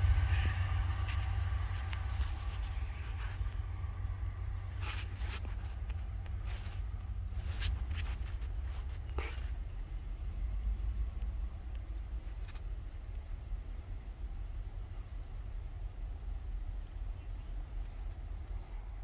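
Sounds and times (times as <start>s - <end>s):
insects chirring: 0.0s - 19.0s
low steady rumble: 0.0s - 19.0s.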